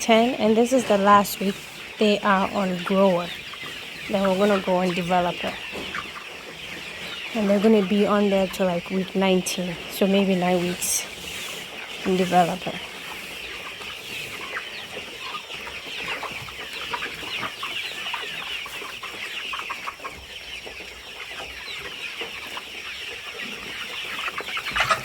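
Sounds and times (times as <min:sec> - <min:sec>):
chickens clucking and cheeping: 0:00.0 - 0:25.0.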